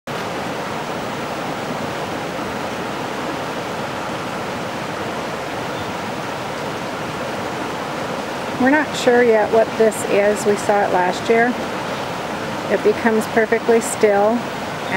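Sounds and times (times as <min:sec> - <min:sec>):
creek water rushing and bubbling: 0:00.1 - 0:14.9.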